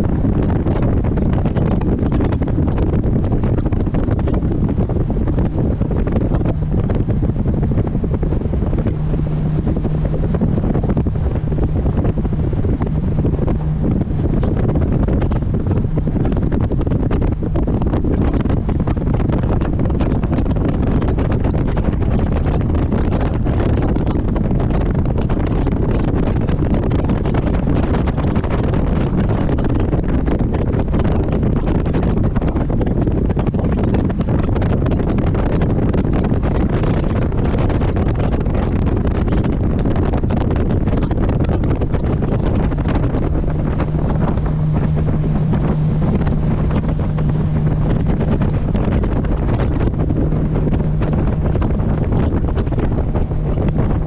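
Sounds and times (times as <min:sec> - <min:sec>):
boat engine drone: 0:00.0 - 0:54.0
low hum: 0:00.0 - 0:54.0
wind buffeting microphone: 0:00.0 - 0:54.0.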